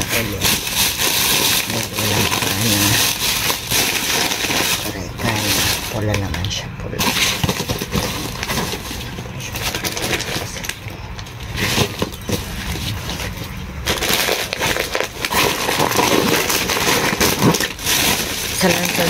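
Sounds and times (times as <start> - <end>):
plastic bag rustling and crinkling: 0.0 - 19.0.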